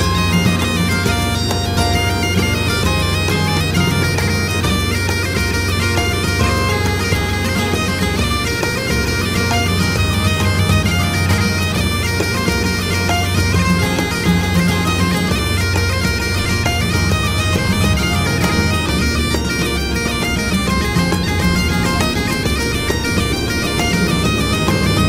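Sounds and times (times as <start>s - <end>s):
bagpipe melody over drone: 0.0s - 25.0s.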